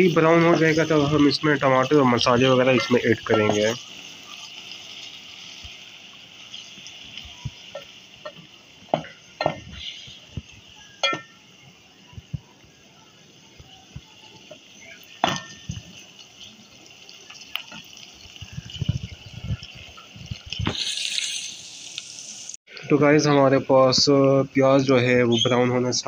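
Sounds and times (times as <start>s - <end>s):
onions frying: 0.0s - 26.0s.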